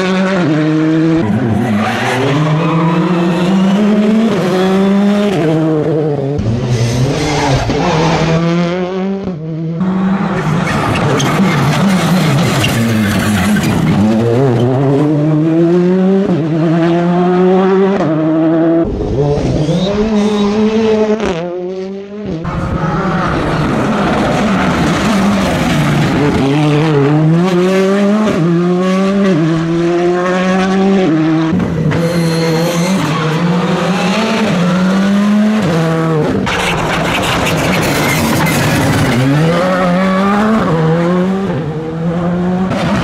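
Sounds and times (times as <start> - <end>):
rally car engines revving past: 0.0 - 43.0.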